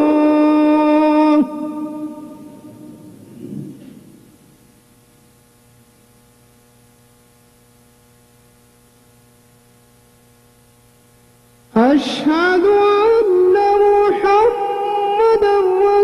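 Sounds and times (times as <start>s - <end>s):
faint mains hum: 0.0s - 16.0s.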